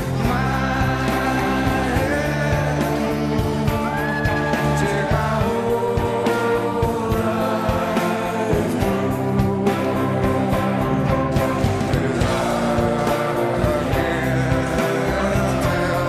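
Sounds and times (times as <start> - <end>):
person singing over a beat: 0.0 - 16.0.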